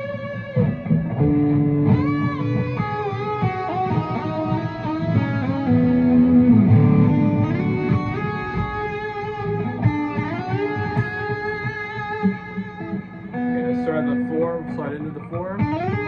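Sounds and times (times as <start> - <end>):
guitar melody with bends: 0.0 - 16.0.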